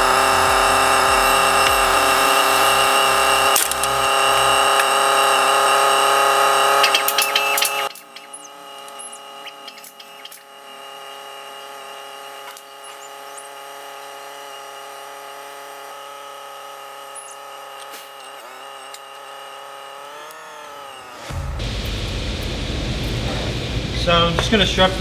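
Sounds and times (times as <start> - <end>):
hydraulic pump motor whining: 0.0 - 25.0.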